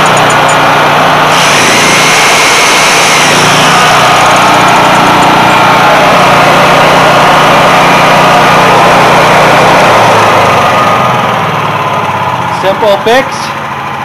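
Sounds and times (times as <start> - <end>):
generator engine running: 0.0 - 14.0.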